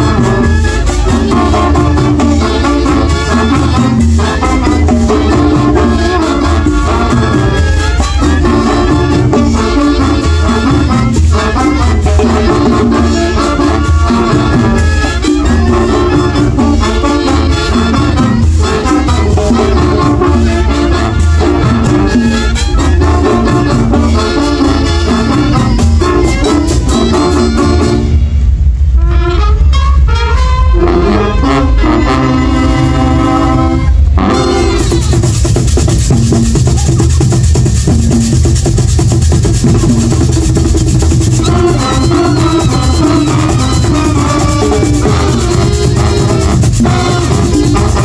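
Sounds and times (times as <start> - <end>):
loud drum beat: 0.0 - 28.0, 34.2 - 48.0
brass band playing latin music: 0.0 - 48.0.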